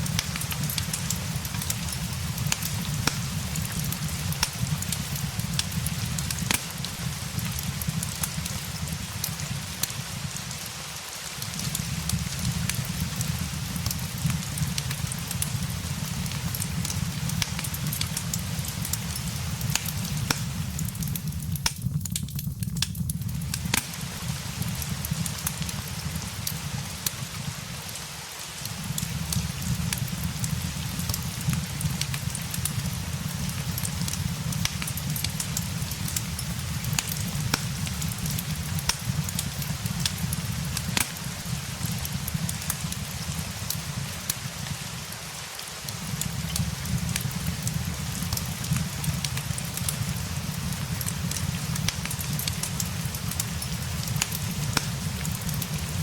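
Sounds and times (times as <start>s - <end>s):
fireplace pops and crackles: 0.0s - 56.0s
steady rain: 0.0s - 56.0s.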